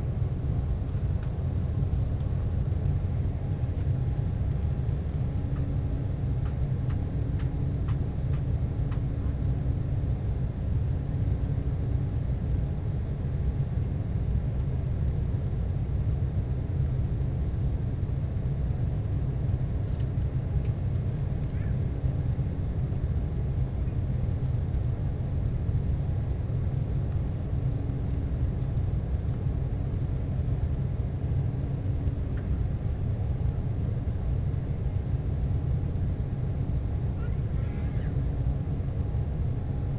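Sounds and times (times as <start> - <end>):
airliner cabin rumble: 0.0 - 39.9
faint hum: 0.0 - 39.9.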